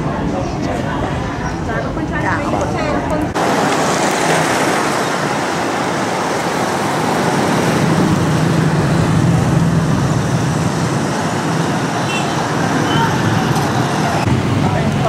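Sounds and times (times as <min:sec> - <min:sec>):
busy street traffic: 0:00.0 - 0:15.0.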